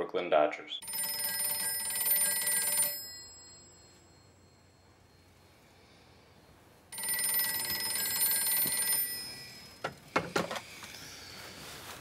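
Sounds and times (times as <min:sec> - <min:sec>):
telephone bell ringing: 0:00.8 - 0:10.5.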